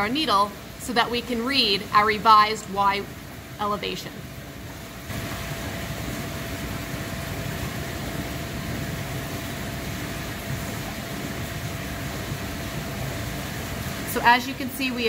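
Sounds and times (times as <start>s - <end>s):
faint steady hum: 0.0s - 15.0s
water rushing through channel: 0.0s - 15.0s.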